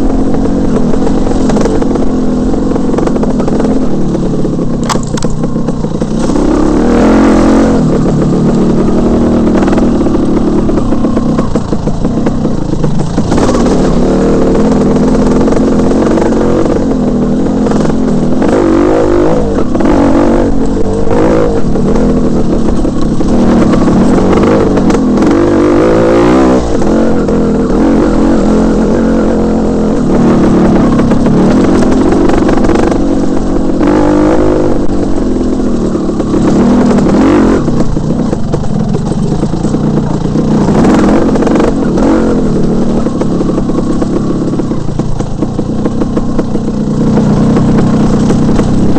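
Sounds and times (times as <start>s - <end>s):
bike knocks and rattles: 0.0s - 48.9s
motorcycle engine revving: 0.0s - 48.9s.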